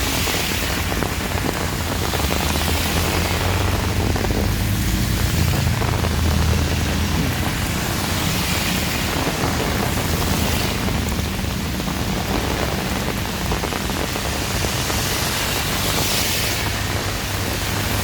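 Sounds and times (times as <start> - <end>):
heavy rain pouring: 0.0 - 18.0
wind gusts: 0.0 - 18.0
low rumble: 1.6 - 17.8.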